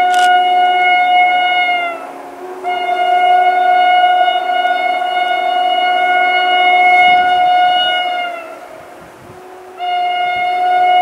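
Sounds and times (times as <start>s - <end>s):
train horn blast: 0.0s - 11.0s.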